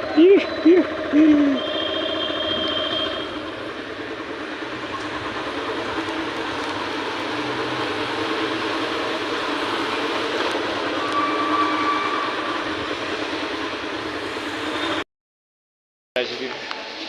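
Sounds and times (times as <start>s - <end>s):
moving vehicle rumble and hiss: 0.0s - 15.0s.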